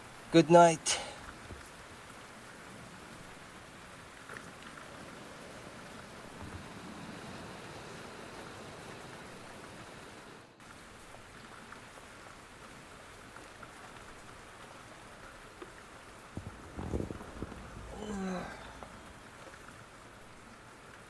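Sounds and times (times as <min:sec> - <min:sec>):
rain falling on a car: 0:00.0 - 0:21.0.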